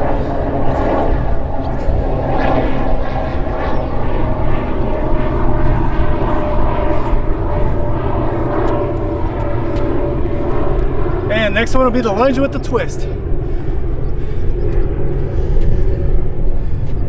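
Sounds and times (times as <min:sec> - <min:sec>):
engine drone with low rumble: 0:00.0 - 0:17.0.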